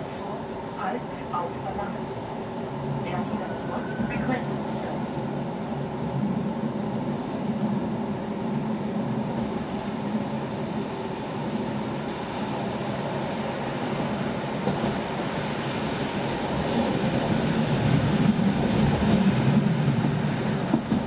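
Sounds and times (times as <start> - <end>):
train wheels rumbling on rails: 2.7 - 21.0.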